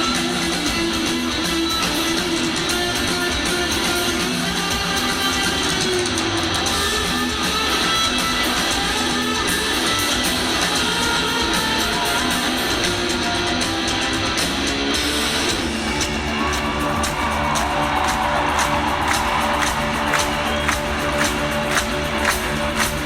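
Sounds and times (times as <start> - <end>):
faint crowd noise: 0.0 - 23.0
rock band music with guitar: 0.0 - 23.0.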